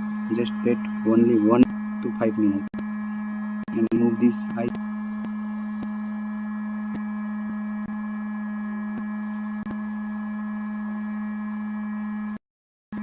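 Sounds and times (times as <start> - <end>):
small motor humming: 0.0 - 12.4.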